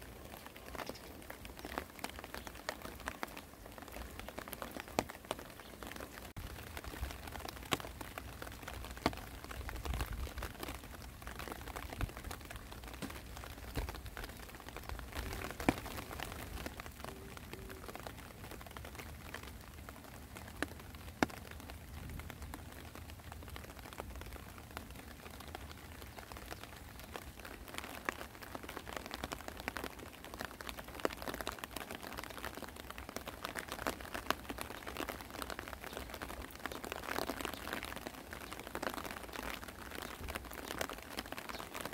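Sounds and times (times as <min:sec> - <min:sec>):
rain falling on plants: 0:00.0 - 0:41.9
raindrops ticking: 0:00.0 - 0:41.9.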